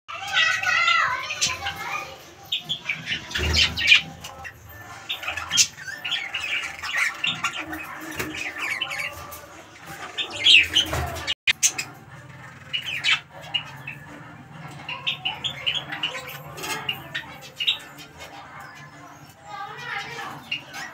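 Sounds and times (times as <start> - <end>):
budgerigars chattering: 0.2 - 20.9.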